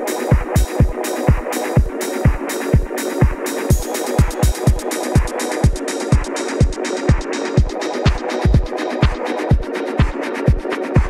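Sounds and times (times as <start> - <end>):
electronic dance music: 0.0 - 11.0
fast hi-hat ticks: 0.0 - 11.0
steady kick drum: 0.0 - 11.0.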